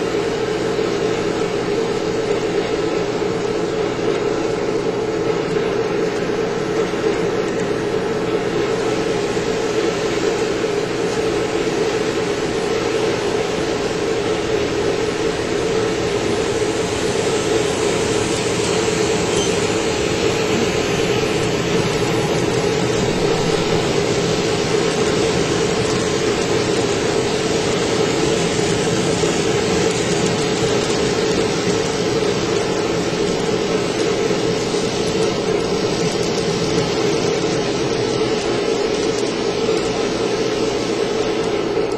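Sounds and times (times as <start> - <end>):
model train motors humming: 0.0 - 41.9.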